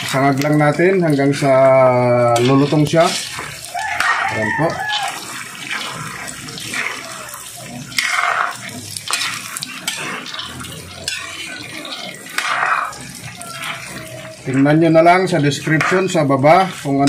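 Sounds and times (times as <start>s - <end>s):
ladles scraping a pan: 0.0s - 17.0s
peanuts sizzling in oil: 0.0s - 17.0s.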